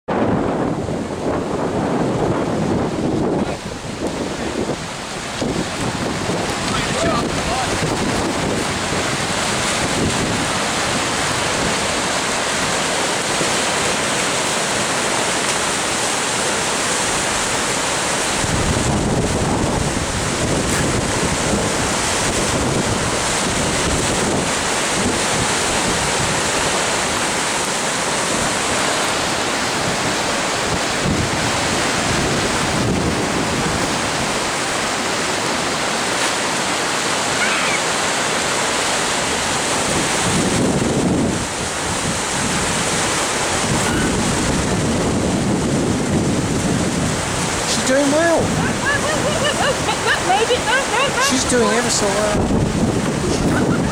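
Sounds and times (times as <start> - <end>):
whitewater roaring: 0.1 - 53.9.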